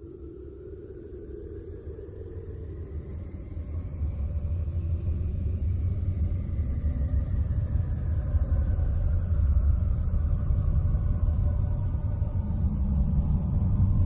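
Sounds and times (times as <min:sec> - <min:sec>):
low rumbling drone: 0:00.0 - 0:14.0.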